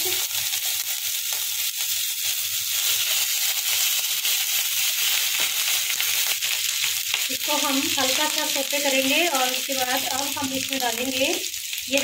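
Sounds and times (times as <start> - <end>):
food sizzling in hot ghee: 0.0 - 12.0.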